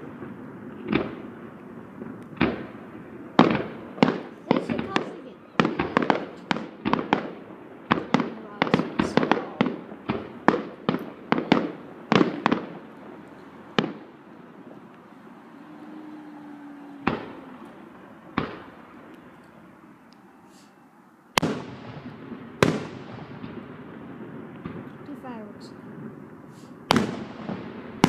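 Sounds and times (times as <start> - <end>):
fireworks bursting with bangs: 0.0 - 28.0.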